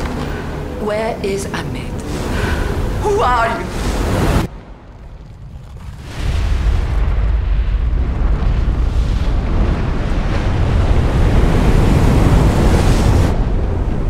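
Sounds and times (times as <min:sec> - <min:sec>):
deep rumble: 0:00.0 - 0:14.0
wind and sea rushing: 0:00.0 - 0:14.0.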